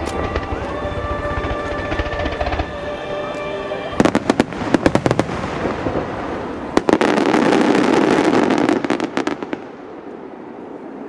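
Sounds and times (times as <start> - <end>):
continuous rush of noise: 0.0 - 11.0
fireworks bangs: 0.0 - 11.0.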